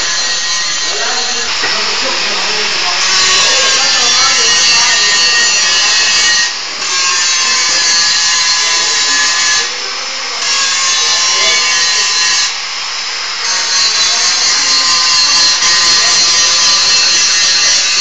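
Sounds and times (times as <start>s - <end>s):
angle grinder grinding steel pipe: 0.0s - 18.0s.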